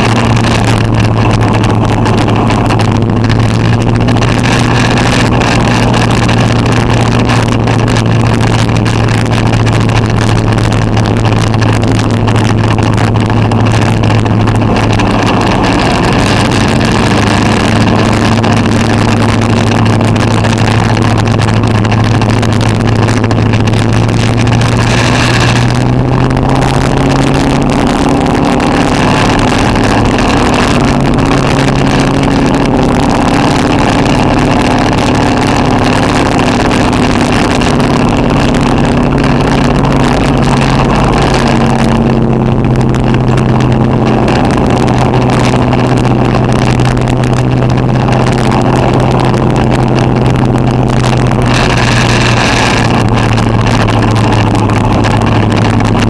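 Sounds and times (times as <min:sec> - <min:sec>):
race car engine running: 0:00.0 - 0:56.0.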